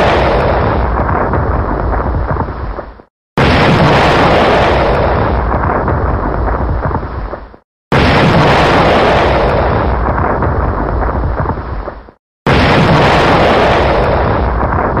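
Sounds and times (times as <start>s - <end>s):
explosion boom: 0.0s - 2.8s, 3.4s - 15.0s.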